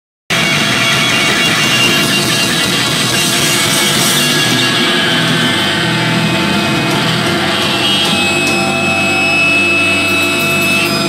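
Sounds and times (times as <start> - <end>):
harsh distorted noise music: 0.3 - 11.0.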